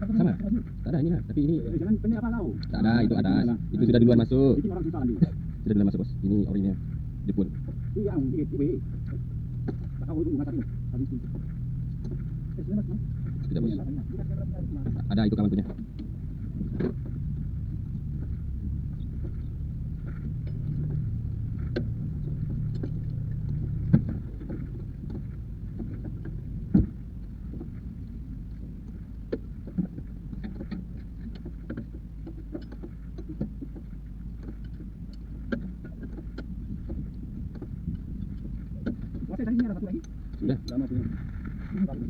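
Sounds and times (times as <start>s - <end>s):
low engine hum: 0.0s - 42.0s.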